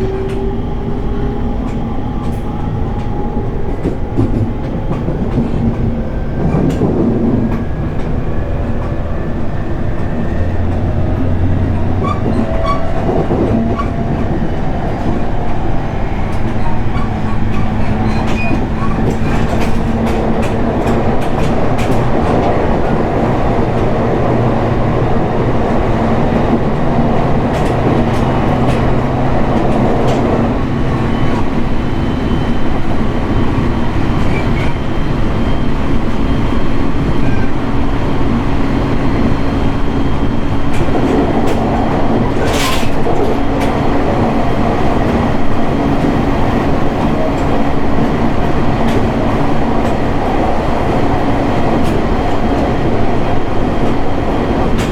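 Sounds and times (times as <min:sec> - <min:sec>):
rail clicks: 0:00.0 - 0:54.9
train wheels on rail drone: 0:00.0 - 0:54.9.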